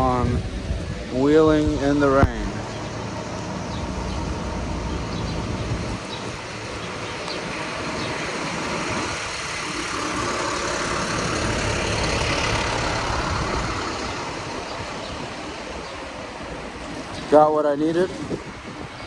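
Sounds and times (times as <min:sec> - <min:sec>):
tyres hissing on wet road: 0:02.6 - 0:19.0.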